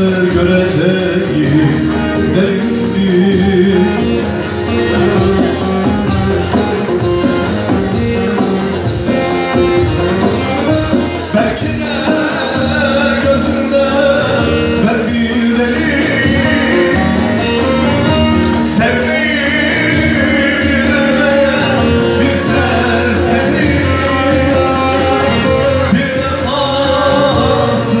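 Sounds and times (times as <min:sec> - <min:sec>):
instrumental music: 0:00.0 - 0:28.0.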